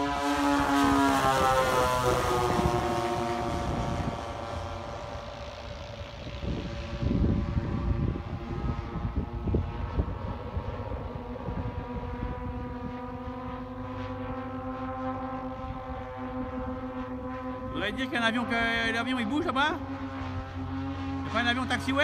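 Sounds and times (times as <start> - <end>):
propeller plane droning overhead: 0.0 - 22.0
wind buffeting microphone: 0.0 - 22.0.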